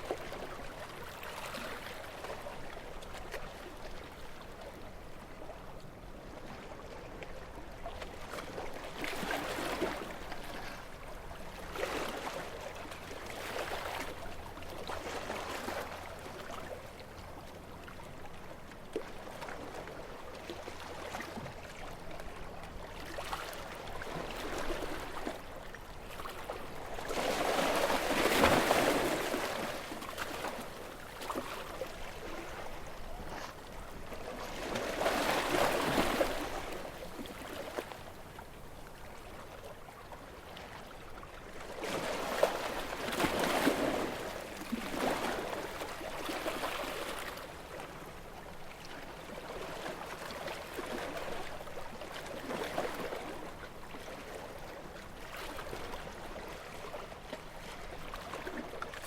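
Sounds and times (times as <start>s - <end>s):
small waves lapping: 0.0s - 59.0s.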